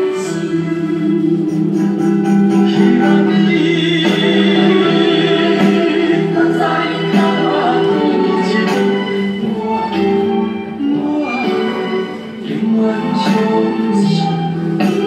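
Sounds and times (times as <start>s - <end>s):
man singing into a microphone: 0.0s - 8.9s, 10.9s - 15.0s
backing music track: 0.0s - 15.0s.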